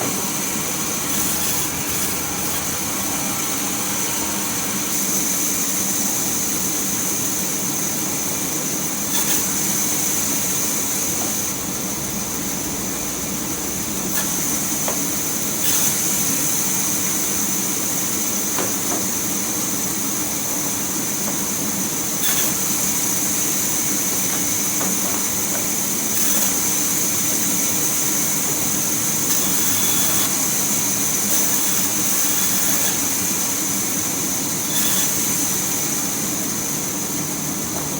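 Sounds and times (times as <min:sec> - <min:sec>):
sawmill machinery whine and rumble: 0:00.0 - 0:37.9.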